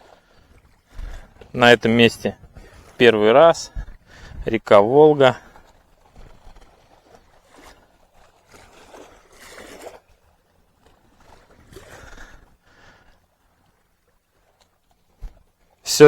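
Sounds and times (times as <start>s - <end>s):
river water lapping at bank: 0.0s - 16.0s.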